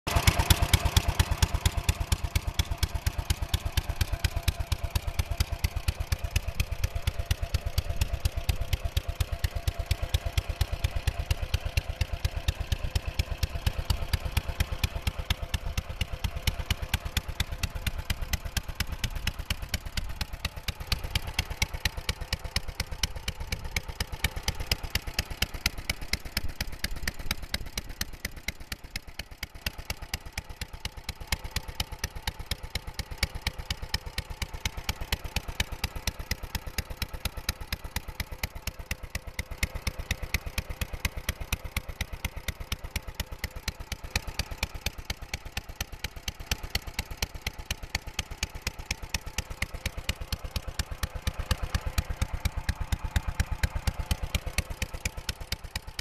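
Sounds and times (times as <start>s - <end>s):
single-cylinder engine idling: 0.1s - 56.0s.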